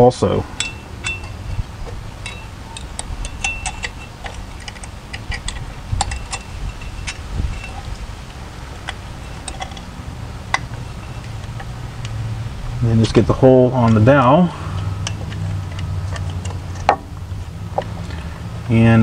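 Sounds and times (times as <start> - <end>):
metallic clicks of brake hardware: 0.5 - 12.2, 13.8 - 18.3.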